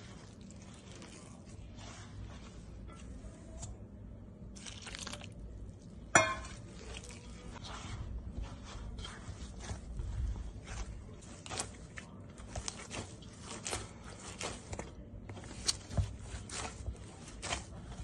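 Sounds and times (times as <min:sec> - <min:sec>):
hands kneading dough: 0:00.0 - 0:18.0.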